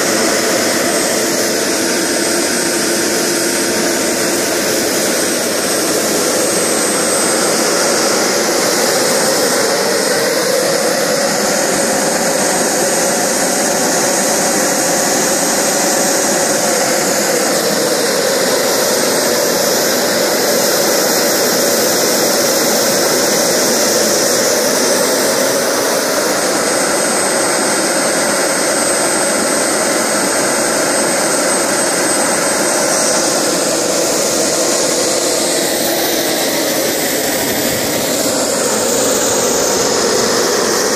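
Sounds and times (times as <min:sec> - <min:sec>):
gas turbine jet roar: 0:00.0 - 0:40.9
high-pitched turbine whine: 0:00.0 - 0:40.9.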